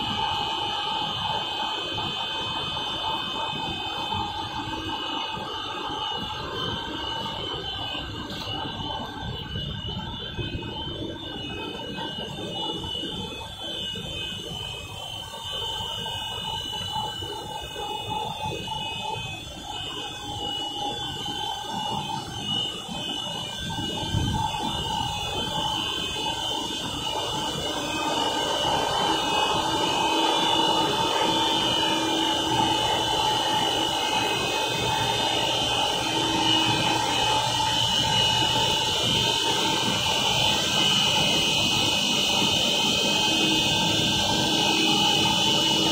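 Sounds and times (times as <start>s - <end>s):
machine hum with high whine: 0.0s - 45.9s.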